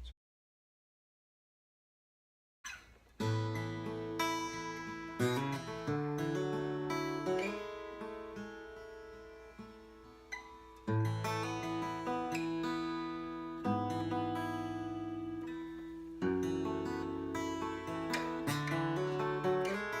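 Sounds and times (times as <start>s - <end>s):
acoustic guitar strumming chords: 3.2s - 20.0s.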